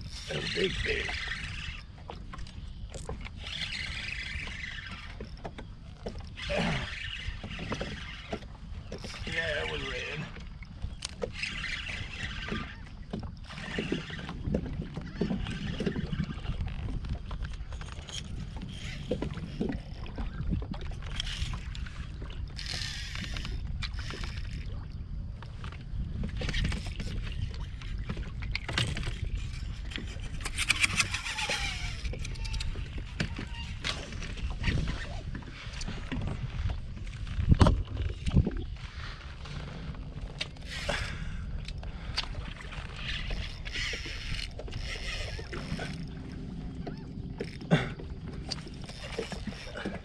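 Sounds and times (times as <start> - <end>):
low wind rumble: 0.0 - 50.0
water splashing around a kayak: 0.0 - 50.0.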